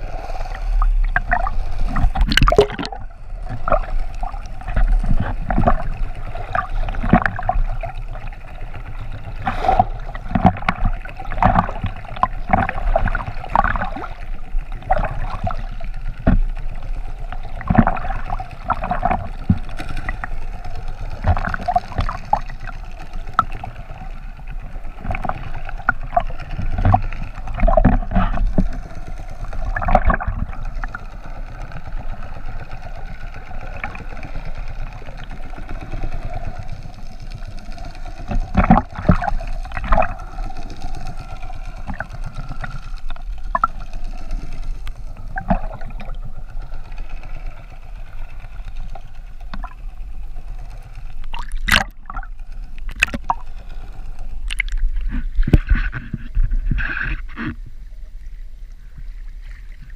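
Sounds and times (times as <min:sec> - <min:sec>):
muffled underwater gurgling: 0:00.0 - 0:59.9
open sea water noise: 0:00.0 - 0:59.9.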